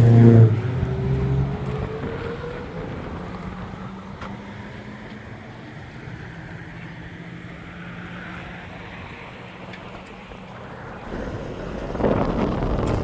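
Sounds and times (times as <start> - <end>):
road noise rushing: 0.0 - 13.0
vehicle engine running: 0.0 - 13.0.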